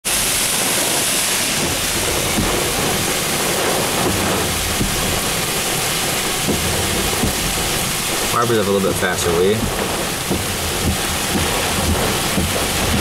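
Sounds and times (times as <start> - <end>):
torrential rain: 0.0 - 13.0
hail: 0.1 - 13.0
strong wind: 0.1 - 13.0.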